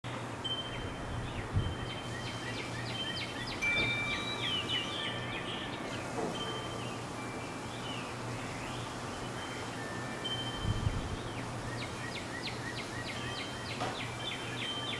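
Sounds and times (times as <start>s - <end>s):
songbirds calling and singing: 0.1s - 14.9s.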